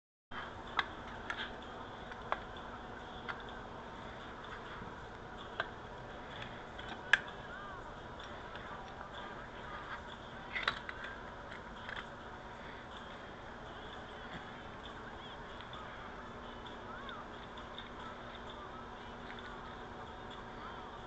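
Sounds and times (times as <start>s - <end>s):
steady low hiss: 0.4s - 21.0s.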